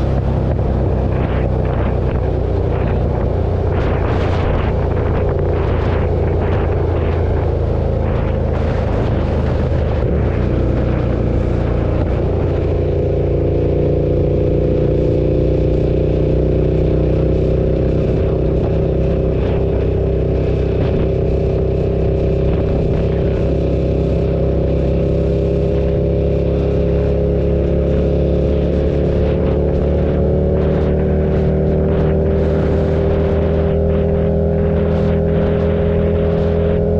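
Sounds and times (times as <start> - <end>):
motorcycle engine running: 0.0 - 36.9
wind rush: 0.0 - 36.9.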